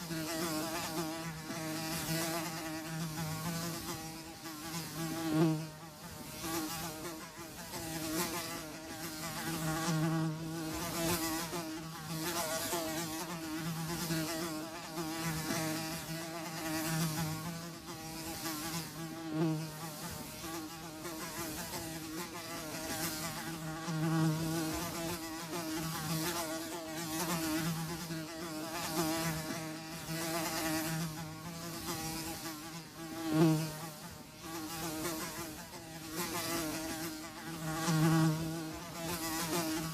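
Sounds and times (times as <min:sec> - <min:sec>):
flies buzzing: 0:00.0 - 0:39.9.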